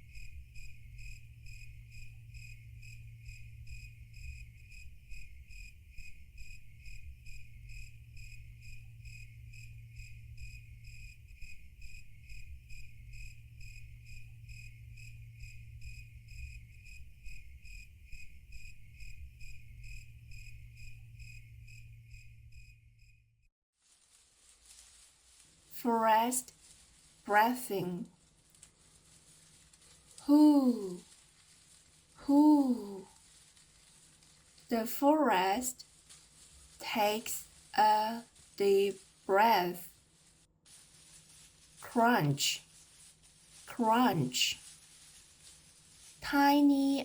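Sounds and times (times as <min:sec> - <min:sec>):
low steady hum: 0:00.0 - 0:23.3, 0:24.4 - 0:47.0
crickets chirping: 0:00.0 - 0:23.4, 0:24.1 - 0:47.0.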